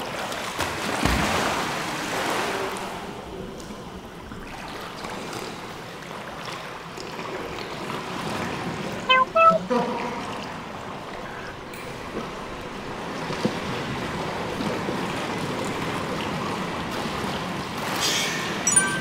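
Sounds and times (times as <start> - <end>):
pool water splashing: 0.0 - 19.0.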